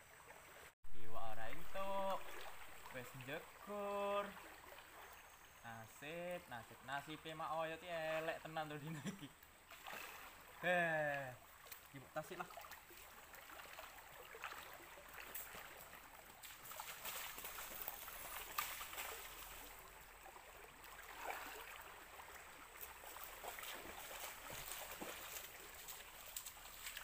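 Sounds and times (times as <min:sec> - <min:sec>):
trickling water: 0:00.0 - 0:27.0.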